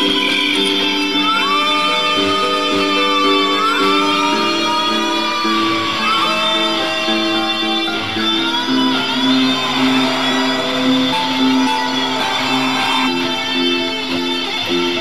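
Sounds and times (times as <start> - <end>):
electric guitar solo: 0.0 - 15.0
low repeating backing riff: 0.0 - 15.0.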